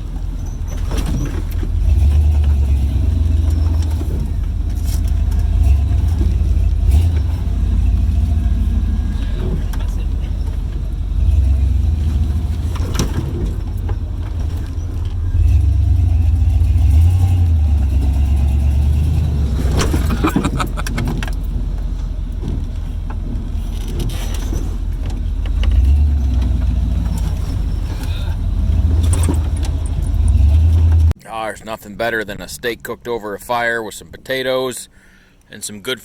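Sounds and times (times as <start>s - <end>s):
sharp knocks and clatter: 0.0s - 31.2s
engine rumbling under load: 0.0s - 36.0s.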